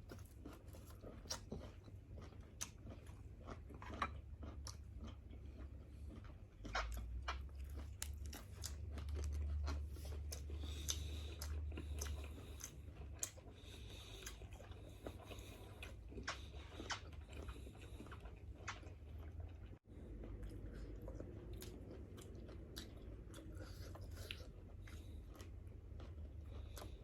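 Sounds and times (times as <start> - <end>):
chewing and biting food: 0.0 - 27.0.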